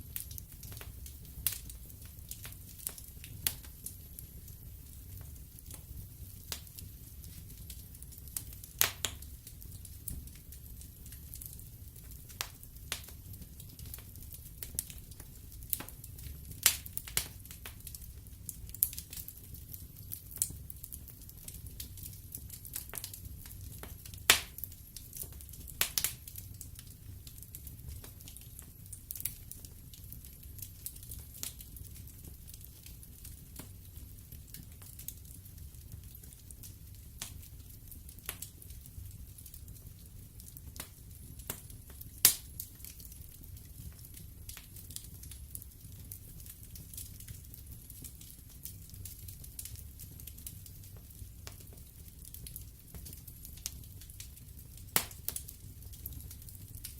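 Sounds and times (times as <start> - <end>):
fire crackling and popping: 0.0 - 56.9
low rumble of flames: 0.0 - 56.9.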